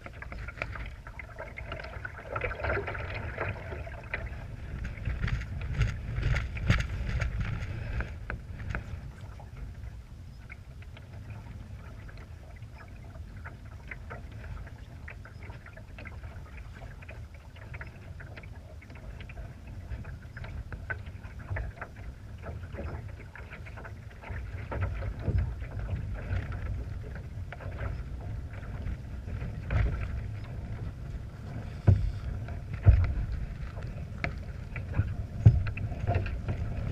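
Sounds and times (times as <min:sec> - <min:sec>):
water splashing against boat hull: 0:00.0 - 0:36.9
wind rumbling on microphone: 0:00.0 - 0:36.9.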